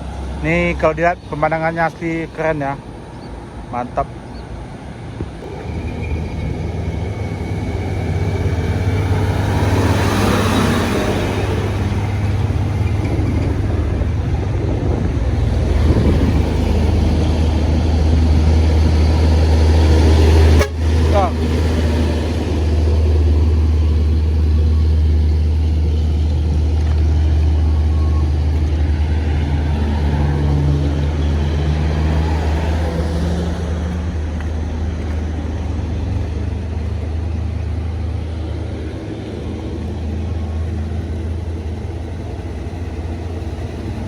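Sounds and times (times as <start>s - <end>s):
diesel engine droning: 0.0s - 44.0s.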